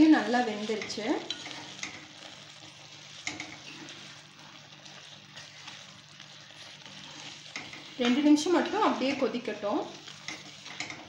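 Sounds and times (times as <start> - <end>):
spatula scraping a pan: 0.4 - 11.0.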